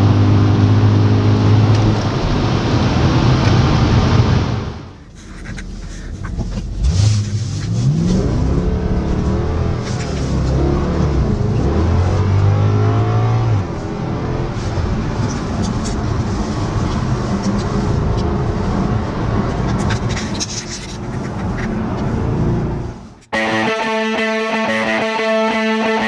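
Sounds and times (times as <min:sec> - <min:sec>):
car engine accelerating: 0:00.0 - 0:26.0
road noise: 0:00.0 - 0:26.0.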